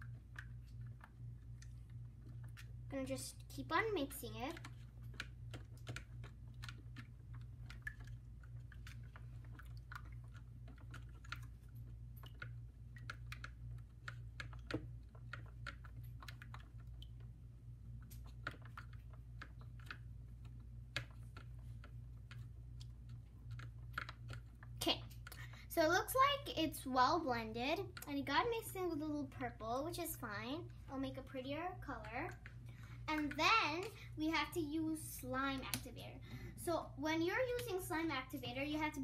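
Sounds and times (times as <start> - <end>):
stick stirring mixture in bowl: 0.0 - 36.0
steady low hum: 0.0 - 39.0.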